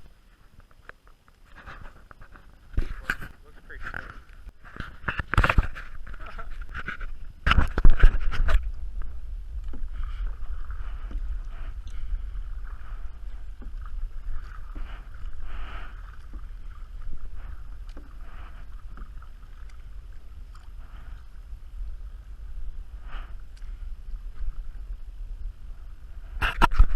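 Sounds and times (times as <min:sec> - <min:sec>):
water splashing and lapping: 0:00.0 - 0:26.9
wind rumble on microphone: 0:00.0 - 0:26.9.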